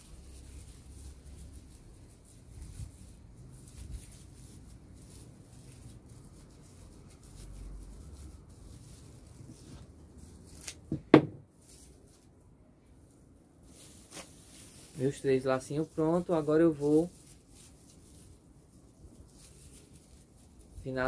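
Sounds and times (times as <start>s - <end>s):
raffia fibres rustling: 0.0s - 21.0s.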